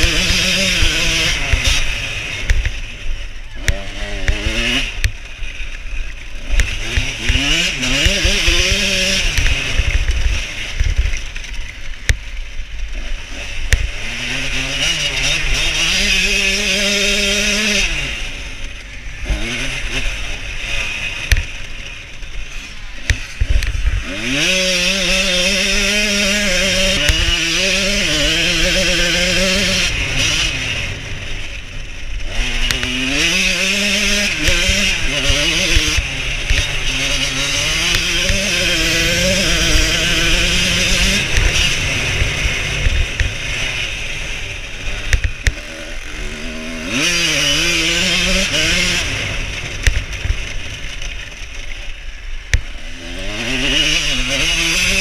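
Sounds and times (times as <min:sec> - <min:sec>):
two-stroke motorbike engine revving: 0:00.0 - 0:55.0.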